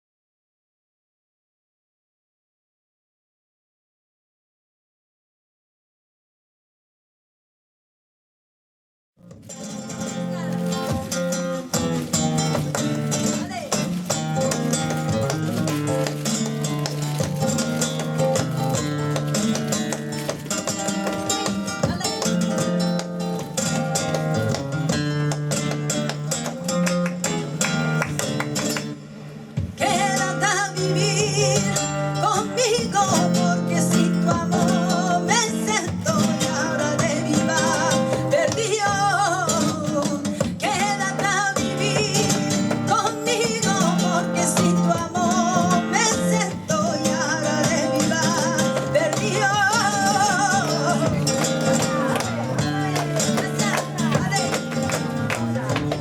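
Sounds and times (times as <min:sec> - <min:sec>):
flamenco guitar strumming: 0:09.2 - 0:56.0
person singing flamenco: 0:09.2 - 0:56.0.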